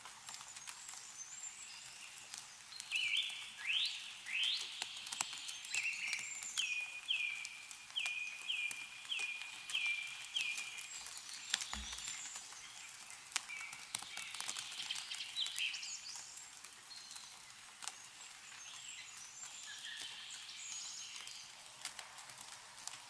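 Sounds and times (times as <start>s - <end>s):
meltwater dripping: 0.0s - 23.0s
small birds chirping: 0.2s - 21.9s.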